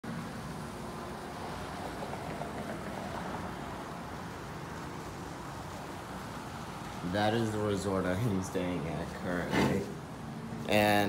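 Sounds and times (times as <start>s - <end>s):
outdoor ambient rumble and hiss: 0.0s - 11.0s.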